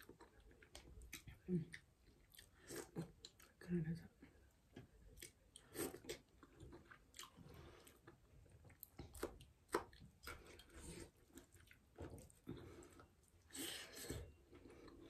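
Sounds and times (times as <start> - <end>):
person chewing food: 0.0 - 3.6, 4.4 - 15.0.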